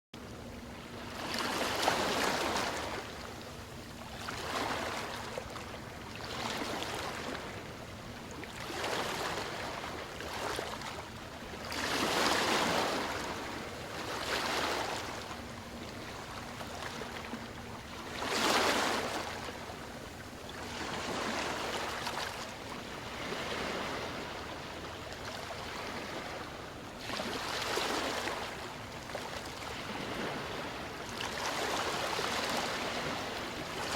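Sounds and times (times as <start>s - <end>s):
waves washing up a beach: 0.6s - 33.9s.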